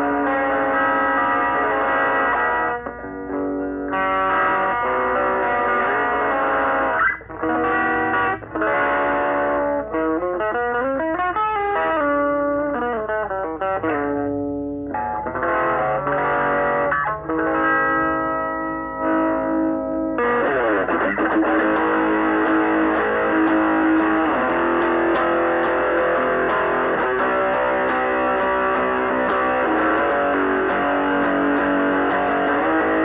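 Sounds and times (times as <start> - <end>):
electric guitar playing: 0.0 - 33.0.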